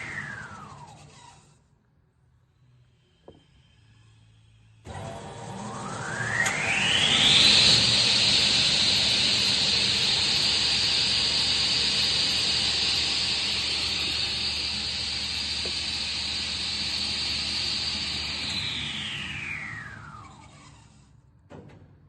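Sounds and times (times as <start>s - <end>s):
table saw high whine: 0.0s - 1.7s, 2.6s - 21.2s.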